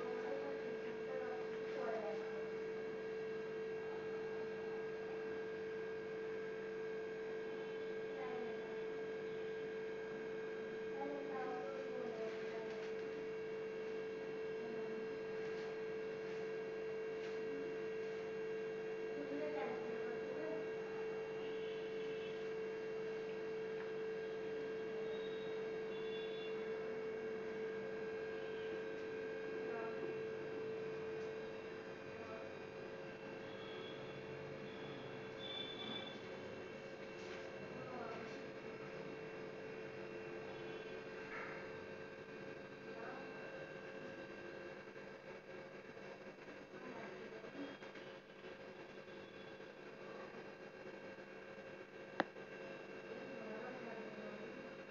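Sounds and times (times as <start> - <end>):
steady electrical hum: 0.0 - 54.9.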